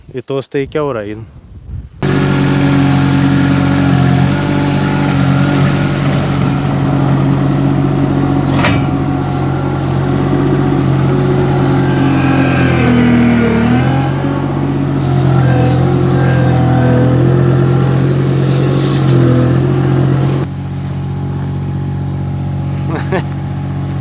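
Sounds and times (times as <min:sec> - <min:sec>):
mini loader engine running: 0:02.0 - 0:24.0.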